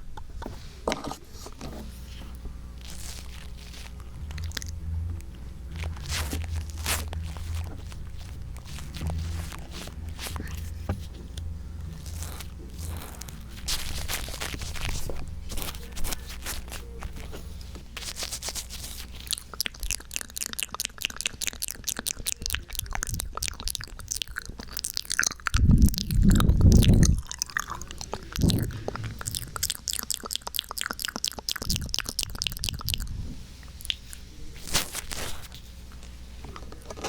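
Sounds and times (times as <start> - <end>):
low rubbing rumble: 1.2 - 20.0, 22.4 - 30.6, 31.6 - 37.0
wet clicks and crinkles: 2.8 - 37.0.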